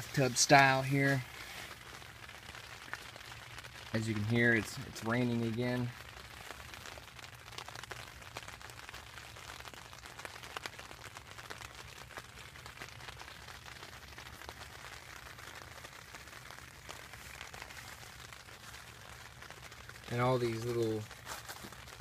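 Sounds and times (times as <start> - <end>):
rain on a tent: 0.0 - 22.0.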